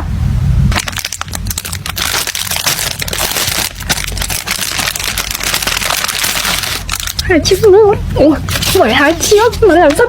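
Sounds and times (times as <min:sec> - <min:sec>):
packaging crinkling and rustling: 0:00.7 - 0:10.0.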